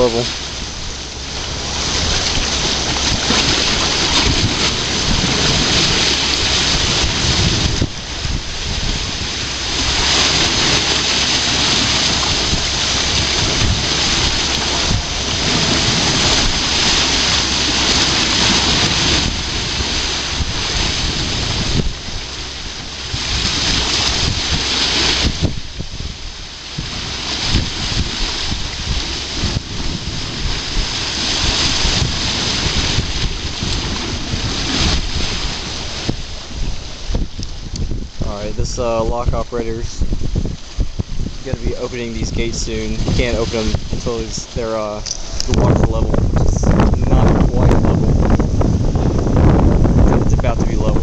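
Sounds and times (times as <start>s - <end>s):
water rushing into whirlpool: 0.0s - 51.0s
wind buffeting microphone: 0.0s - 51.0s.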